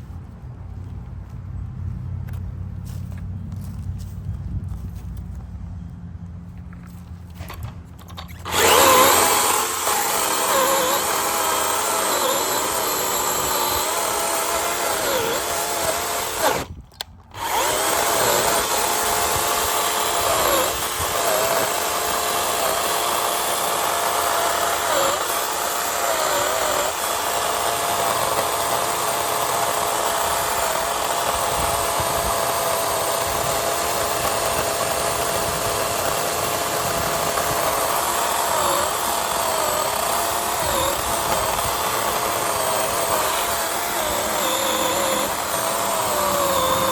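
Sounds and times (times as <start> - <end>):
battery chainsaw cutting branch: 7.3 - 46.9.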